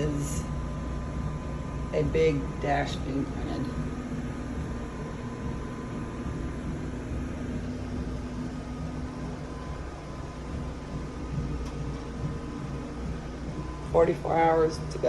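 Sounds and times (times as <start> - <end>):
printer fans and motors whirring: 0.0 - 15.0.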